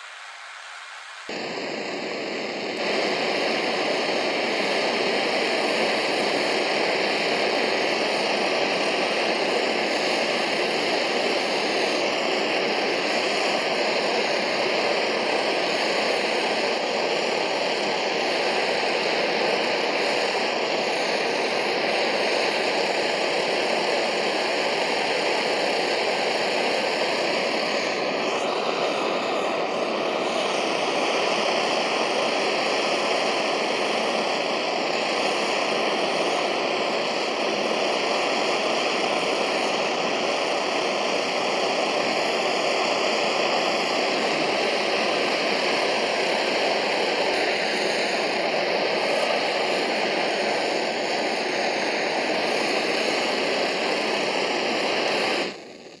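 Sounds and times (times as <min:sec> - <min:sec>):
blowtorch burner rushing: 0:00.0 - 0:56.0.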